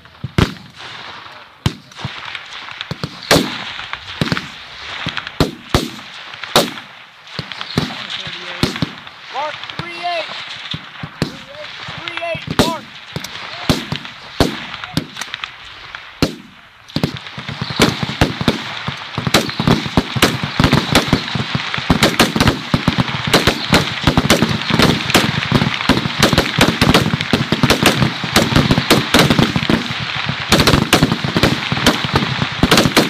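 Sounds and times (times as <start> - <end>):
rifles firing: 1.6 - 33.0.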